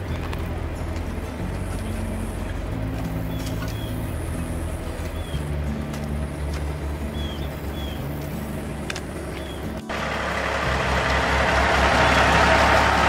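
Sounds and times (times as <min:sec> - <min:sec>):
diesel engines rumbling: 0:00.0 - 0:13.0
truck engine running: 0:00.0 - 0:13.0.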